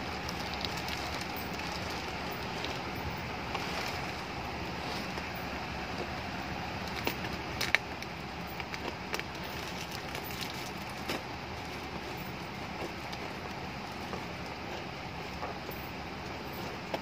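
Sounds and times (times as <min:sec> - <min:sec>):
electric fan hiss: 0:00.0 - 0:17.0
tape crackling: 0:00.0 - 0:17.0.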